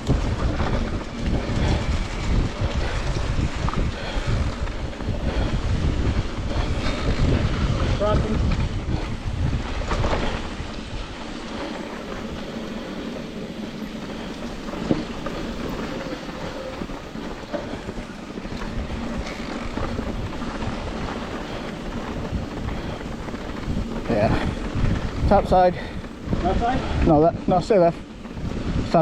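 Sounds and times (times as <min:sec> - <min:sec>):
bike tyres on dirt trail: 0:00.0 - 0:29.0
wind buffeting microphone: 0:00.0 - 0:29.0.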